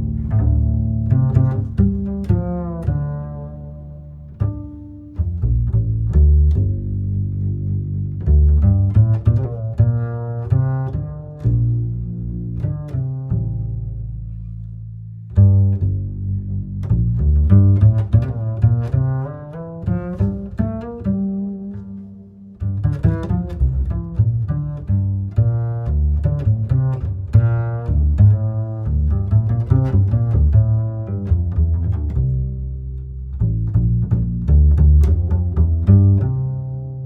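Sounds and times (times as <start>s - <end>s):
low plucked and bowed strings: 0.0s - 37.0s.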